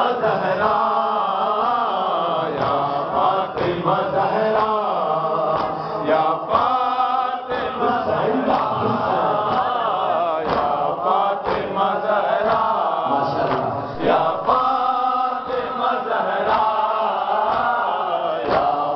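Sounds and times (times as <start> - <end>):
men chanting rhythmic refrain: 0.0 - 18.9
group chest-beating: 2.5 - 18.9.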